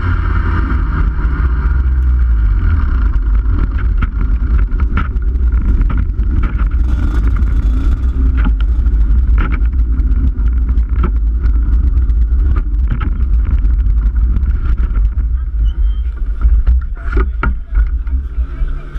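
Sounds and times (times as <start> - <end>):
kart engines running: 0.0 - 18.9
low rumble of vibration and wind: 0.0 - 18.9.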